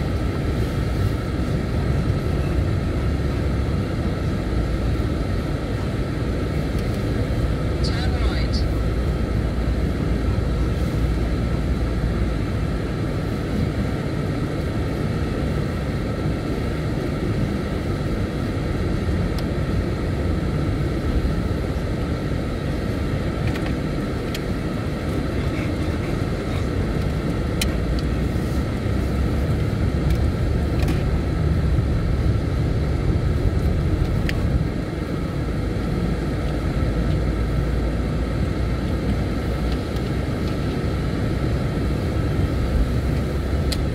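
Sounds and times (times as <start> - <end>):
road vehicle rumble: 0.0 - 43.9.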